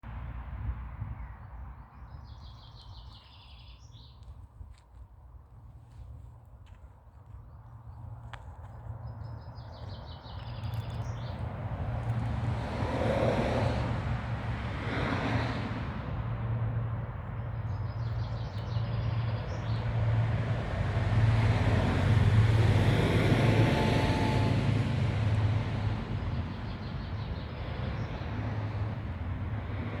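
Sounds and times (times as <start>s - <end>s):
road traffic passing: 5.2s - 30.0s.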